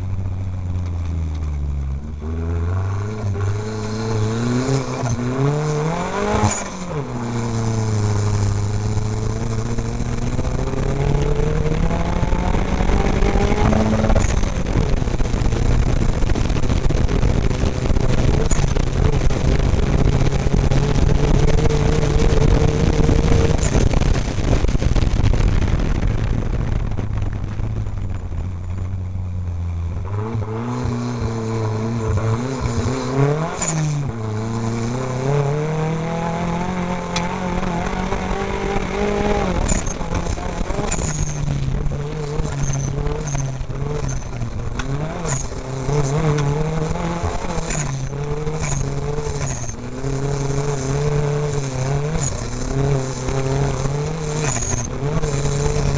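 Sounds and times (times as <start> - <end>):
race vehicle engine revving: 0.0 - 55.9
rumble and rattle over rough ground: 0.0 - 55.9.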